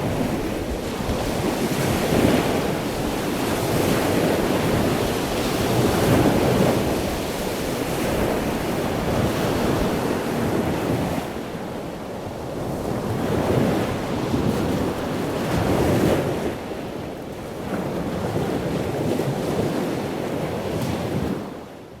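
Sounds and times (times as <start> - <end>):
ocean waves breaking: 0.0 - 21.6.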